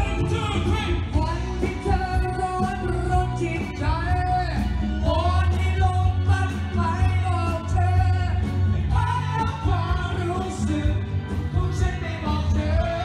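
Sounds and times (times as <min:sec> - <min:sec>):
bass line: 0:00.0 - 0:13.0
drums: 0:00.0 - 0:13.0
person singing: 0:00.0 - 0:13.0.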